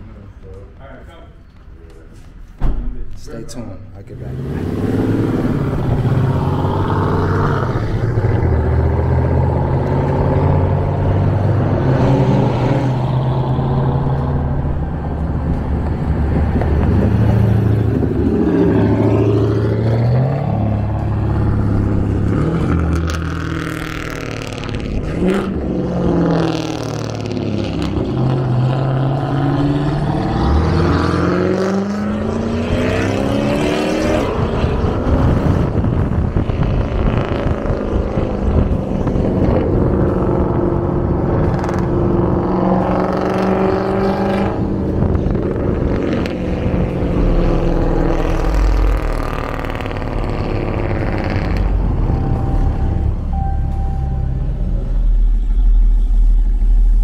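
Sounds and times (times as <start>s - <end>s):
car engine accelerating: 4.0s - 57.0s.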